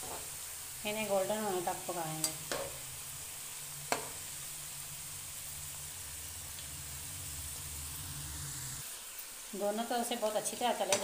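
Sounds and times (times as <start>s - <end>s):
deep-frying sizzle: 0.0s - 11.0s.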